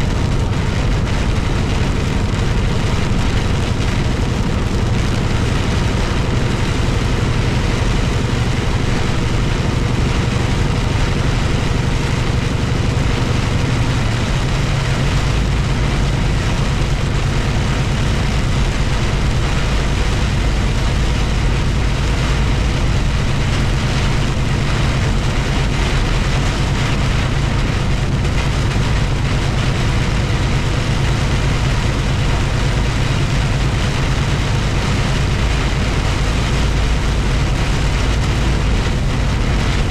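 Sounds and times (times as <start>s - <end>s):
vehicle engine and road drone: 0.0s - 39.9s.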